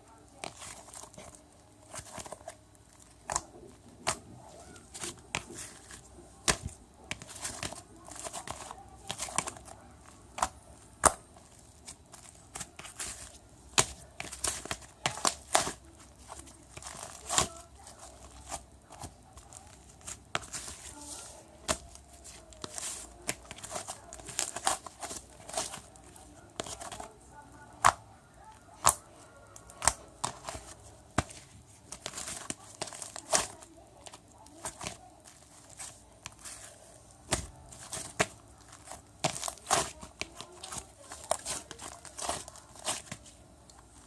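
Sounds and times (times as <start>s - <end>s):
crinkling and rustling: 0.0s - 44.0s.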